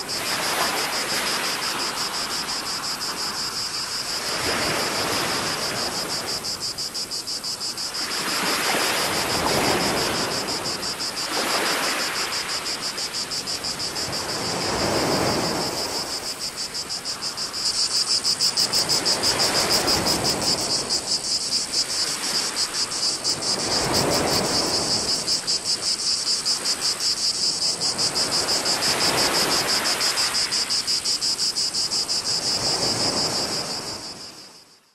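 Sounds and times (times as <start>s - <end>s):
small waves washing on shore: 0.0s - 34.4s
cicada chorus: 0.0s - 34.9s.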